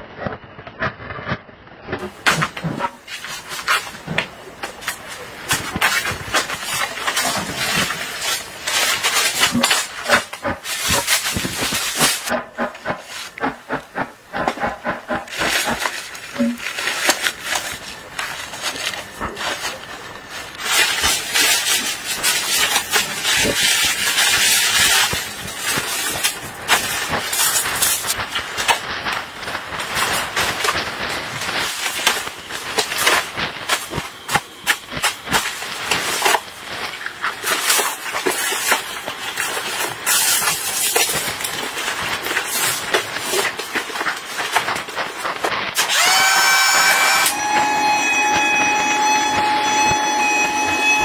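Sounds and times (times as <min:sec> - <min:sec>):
plastic sheeting rustling: 0:02.0 - 0:51.0.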